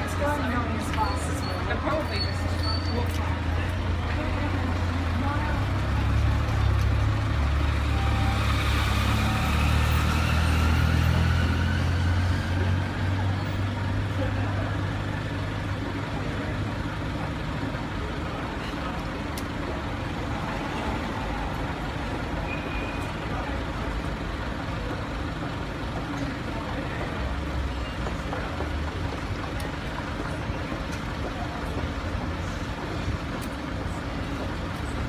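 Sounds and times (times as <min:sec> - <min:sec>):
heavy vehicle engine rumble: 0:00.0 - 0:35.0
road noise: 0:00.0 - 0:35.0.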